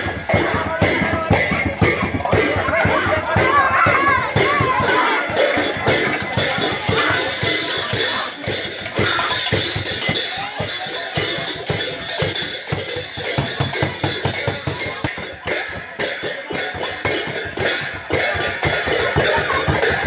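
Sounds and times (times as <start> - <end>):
hand drum beating: 0.0 - 20.0
small hand cymbals clashing: 0.0 - 20.0.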